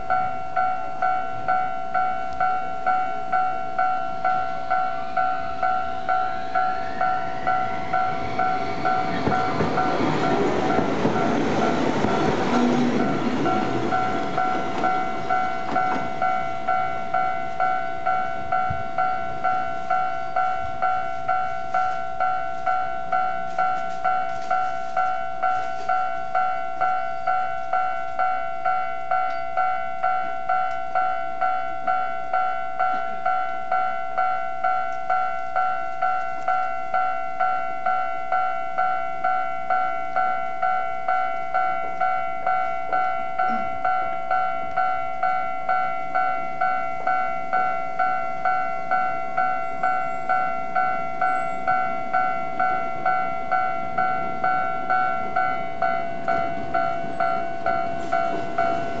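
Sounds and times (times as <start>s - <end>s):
level crossing warning bell: 0.0s - 59.0s
train passing: 0.0s - 59.0s.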